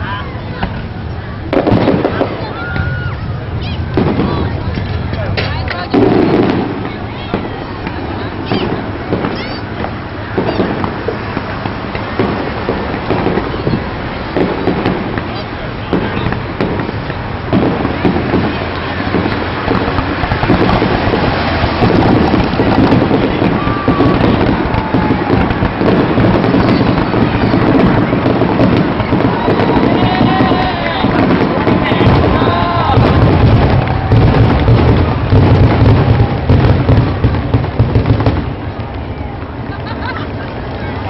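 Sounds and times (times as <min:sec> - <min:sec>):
fireworks barrage: 0:00.0 - 0:41.0.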